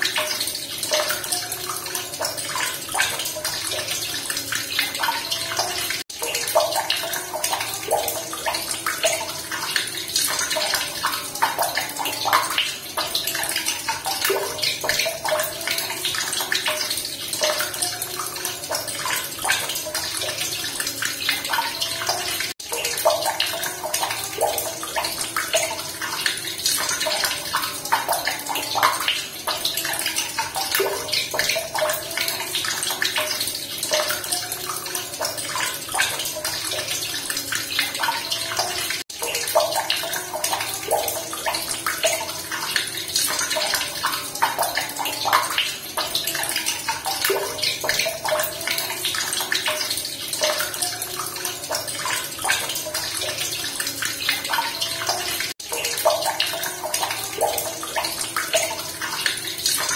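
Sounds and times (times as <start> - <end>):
running water splashing: 0.0 - 59.9.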